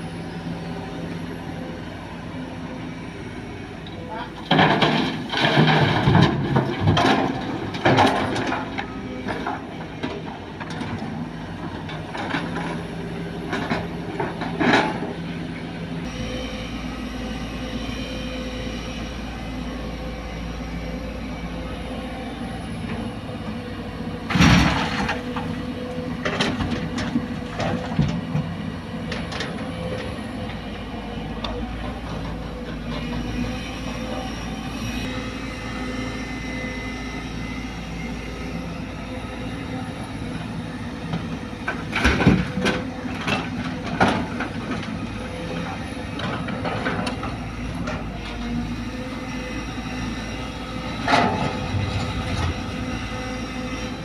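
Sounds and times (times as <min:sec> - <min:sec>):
excavator and dump trucks running: 0:00.0 - 0:54.0.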